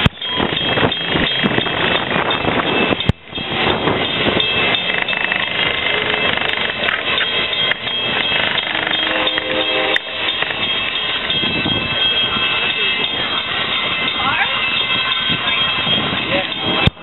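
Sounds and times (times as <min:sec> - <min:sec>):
train coaches rolling on rails: 0:00.0 - 0:17.0.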